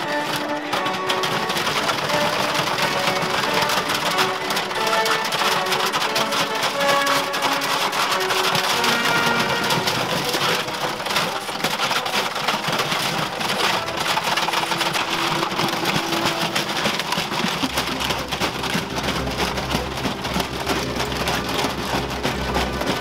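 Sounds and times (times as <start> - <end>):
steel chains rattling on concrete: 0.0 - 23.0
washing machine drum spinning: 0.0 - 23.0.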